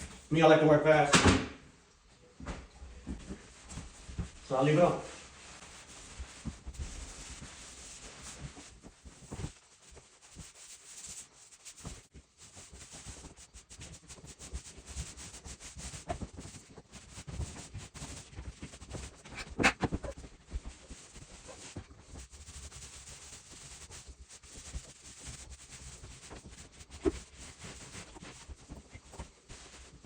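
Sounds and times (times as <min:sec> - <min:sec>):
rubbing on wooden floor: 0:03.1 - 0:30.0.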